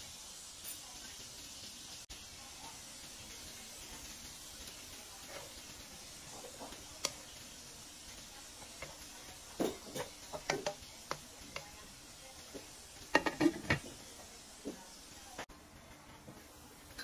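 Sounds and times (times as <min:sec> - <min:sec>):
liquid simmering with hiss: 0:00.0 - 0:17.0.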